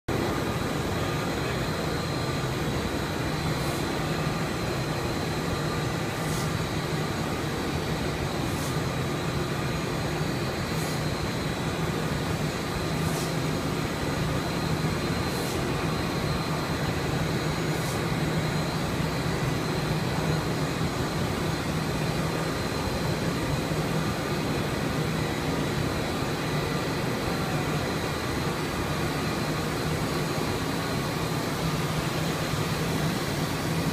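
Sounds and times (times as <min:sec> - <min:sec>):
machine humming with high whine: 0:00.1 - 0:33.9.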